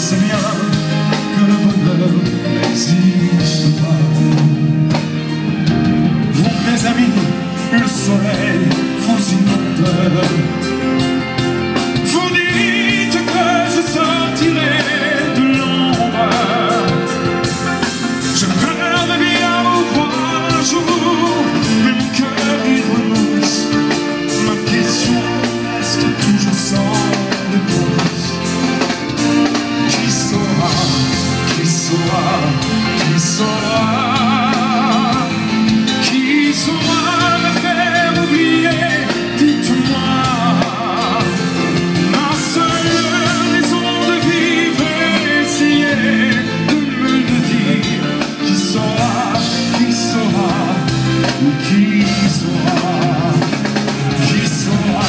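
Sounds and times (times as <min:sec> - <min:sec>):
high melody with vibrato: 0:00.0 - 0:55.0
pop-rock band playing: 0:00.0 - 0:55.0.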